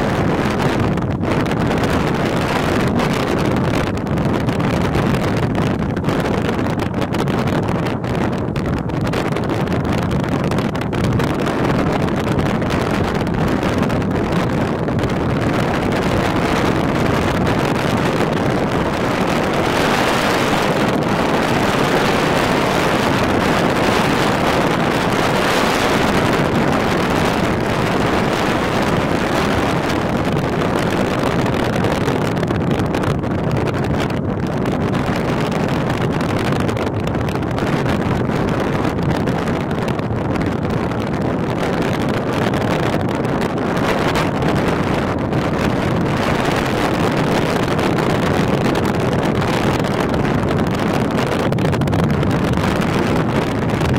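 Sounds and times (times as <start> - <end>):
strong wind on microphone: 0.0 - 53.9.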